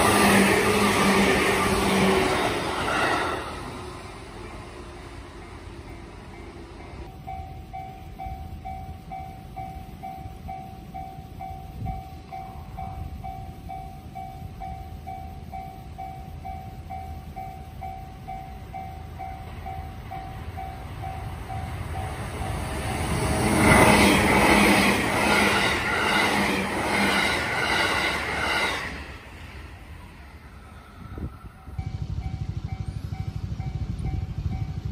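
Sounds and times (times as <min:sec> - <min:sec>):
level-crossing alarm ringing: 0:00.0 - 0:29.0
electric train passing: 0:00.0 - 0:34.9.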